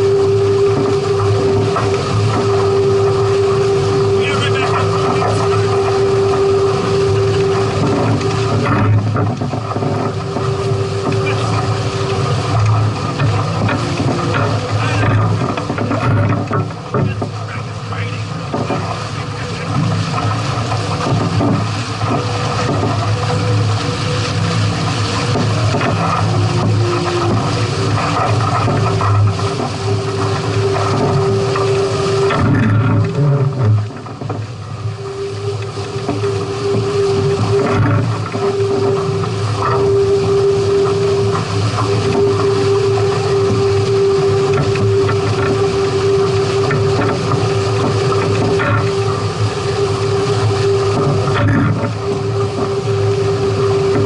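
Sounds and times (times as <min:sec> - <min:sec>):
boat engine hum: 0:00.0 - 0:54.0
low drone: 0:00.0 - 0:54.0
low rumble: 0:00.0 - 0:54.0
rushing water: 0:00.0 - 0:54.0
rushing wind: 0:00.0 - 0:54.0.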